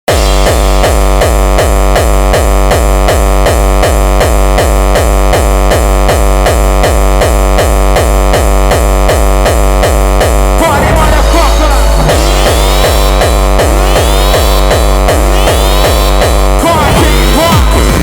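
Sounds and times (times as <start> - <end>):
electronic hardcore dance music: 0.0 - 18.0
heavy kick drum pounding: 0.0 - 18.0.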